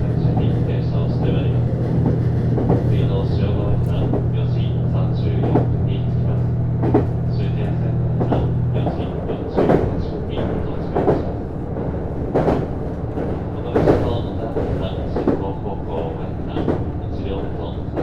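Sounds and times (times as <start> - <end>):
railcar drive hum: 0.0 - 18.0
train wheels clunking over rail joints: 0.0 - 18.0.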